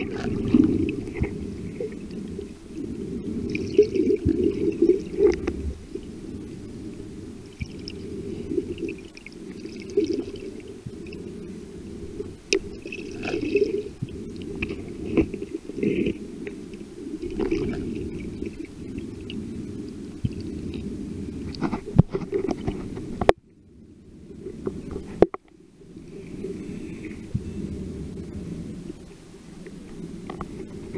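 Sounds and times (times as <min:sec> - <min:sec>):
muffled underwater sloshing: 0:00.0 - 0:30.9.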